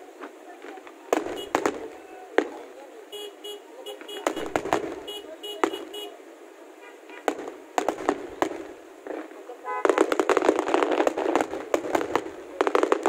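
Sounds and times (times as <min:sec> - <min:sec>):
firework crackling: 0:00.0 - 0:06.2, 0:06.8 - 0:13.0
firework bangs: 0:00.2 - 0:06.1, 0:06.8 - 0:13.0.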